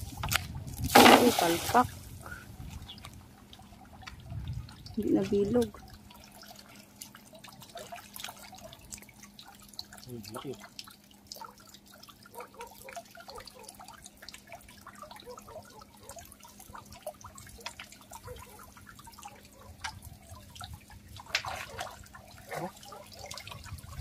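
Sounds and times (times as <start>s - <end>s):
water dripping and splashing: 0.0s - 24.0s.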